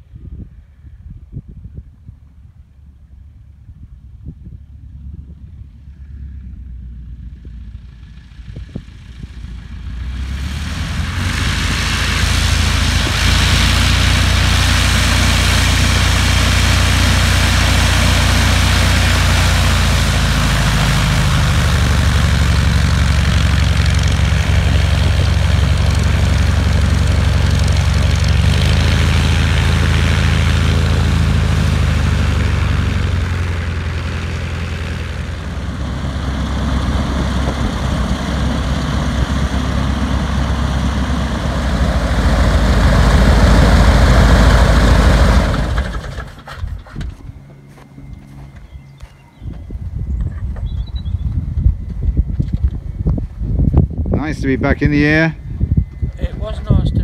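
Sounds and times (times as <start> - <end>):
propeller aircraft engine running: 0.0 - 57.0.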